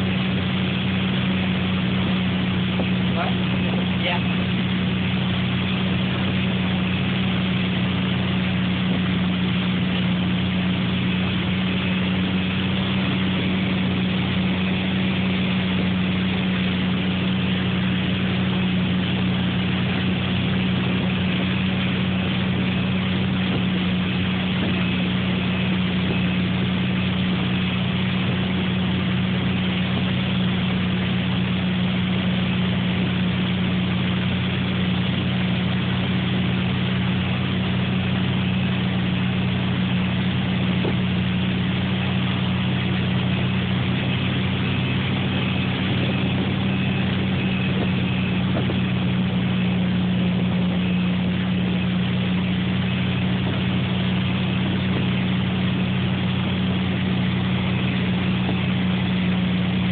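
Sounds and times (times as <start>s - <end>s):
boat engine drone: 0.0s - 59.9s
wake rushing: 0.0s - 59.9s.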